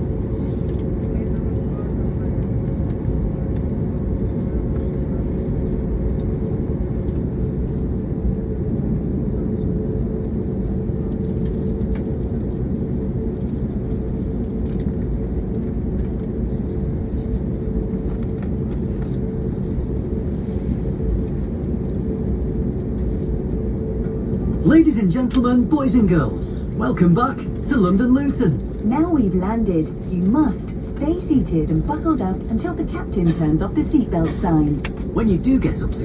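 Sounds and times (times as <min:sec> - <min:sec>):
aircraft cabin rumble: 0:00.0 - 0:36.0.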